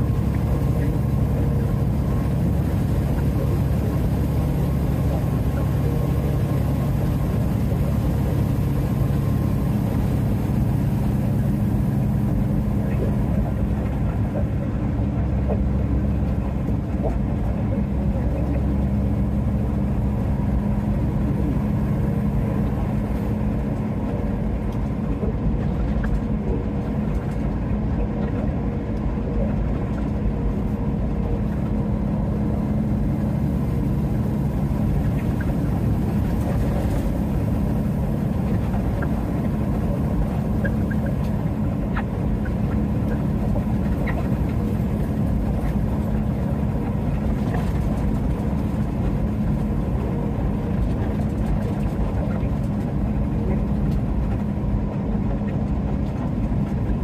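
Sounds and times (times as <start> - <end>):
truck diesel engine cruising: 0.0 - 57.0.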